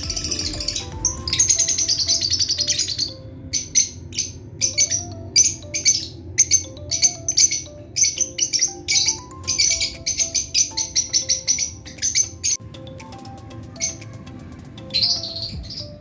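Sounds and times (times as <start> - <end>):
lovebirds chirping: 0.0 - 16.0
soft background music: 0.0 - 16.0.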